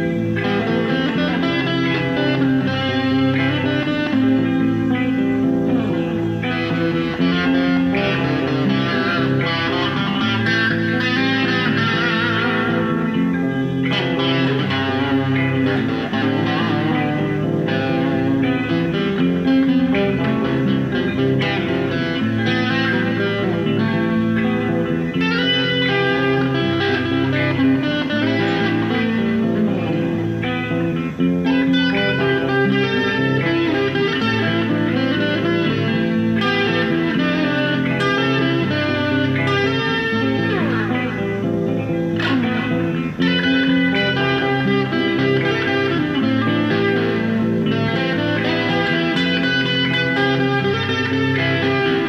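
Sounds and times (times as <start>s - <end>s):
electric guitar playing: 0.0s - 52.0s.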